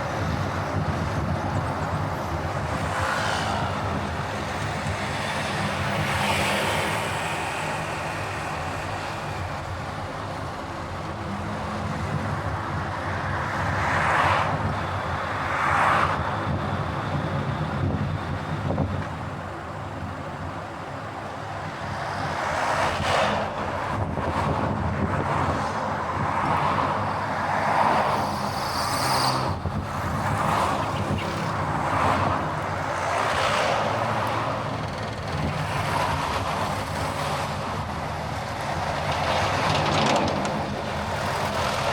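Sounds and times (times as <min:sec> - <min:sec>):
car engine and tyre hum: 0:00.0 - 0:41.9
road noise rushing: 0:00.0 - 0:41.9.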